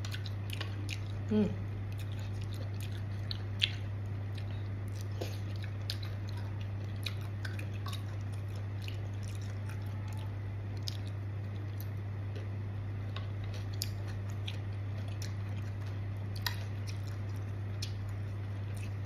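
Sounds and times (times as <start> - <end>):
low electrical hum: 0.0 - 19.0
person chewing with mouth sounds: 0.0 - 19.0.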